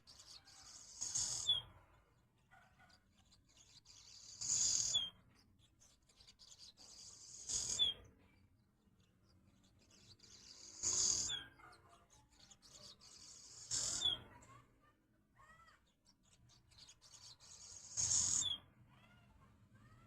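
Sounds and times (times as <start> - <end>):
swallows twittering: 0.0 - 20.0.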